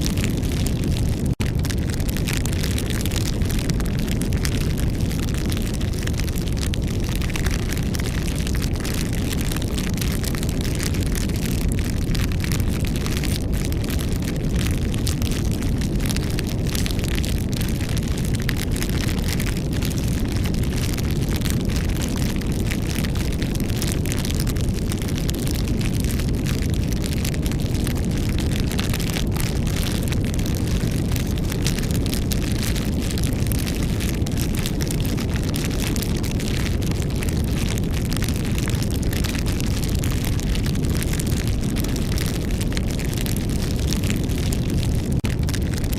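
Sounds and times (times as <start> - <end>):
fire crackles and pops: 0.0 - 45.9
low rumble of flames: 0.0 - 45.9.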